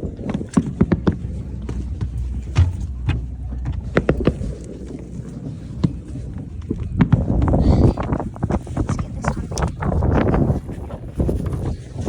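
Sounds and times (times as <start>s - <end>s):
boat rumble: 0.0s - 12.0s.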